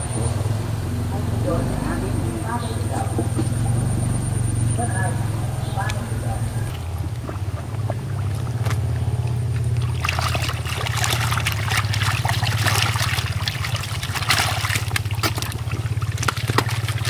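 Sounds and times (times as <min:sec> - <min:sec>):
steady low hum: 0:00.0 - 0:17.0
water splashing and sloshing: 0:00.0 - 0:17.0.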